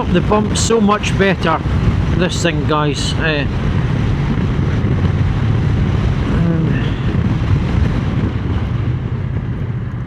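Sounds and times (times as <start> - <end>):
motorcycle engine running: 0.0 - 10.0
wind on microphone: 0.0 - 10.0.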